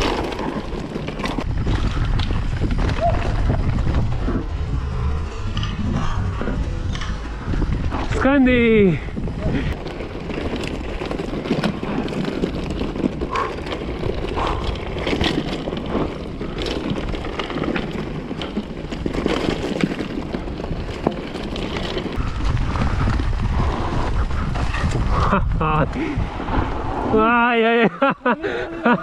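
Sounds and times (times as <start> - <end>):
rattles and clicks: 0.0 - 26.7
wind buffeting microphone: 0.0 - 29.0.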